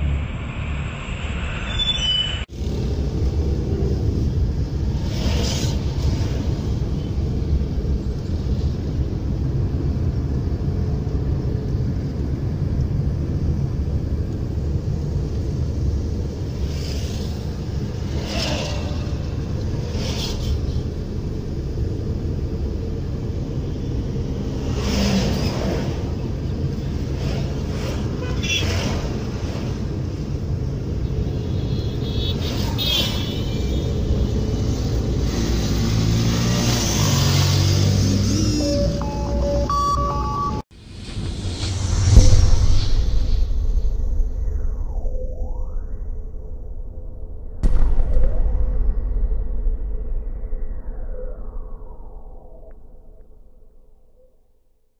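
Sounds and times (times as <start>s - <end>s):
passing traffic swooshes: 0.0s - 45.0s.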